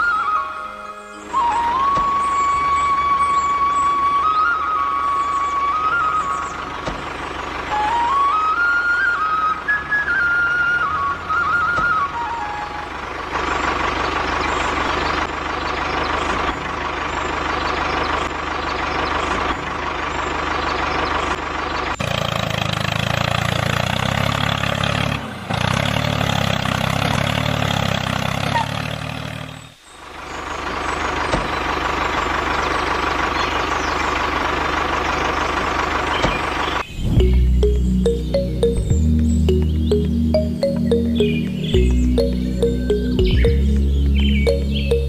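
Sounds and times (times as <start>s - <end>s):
vehicle engine drone: 1.3s - 45.0s.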